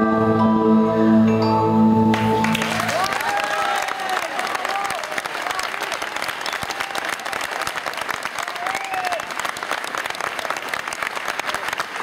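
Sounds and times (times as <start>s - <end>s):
audience applauding: 2.1s - 12.0s.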